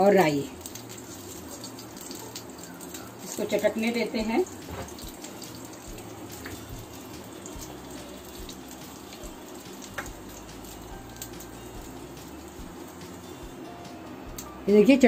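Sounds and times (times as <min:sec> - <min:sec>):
seeds sizzling in hot oil: 0:00.0 - 0:15.0.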